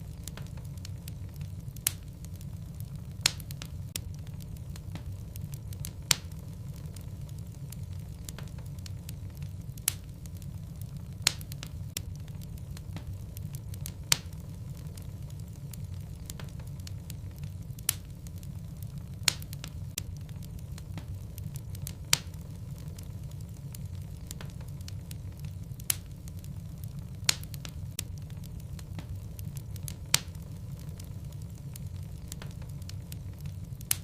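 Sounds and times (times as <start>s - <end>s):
fire popping and crackling: 0.0s - 34.0s
fire rumbling: 0.0s - 34.0s.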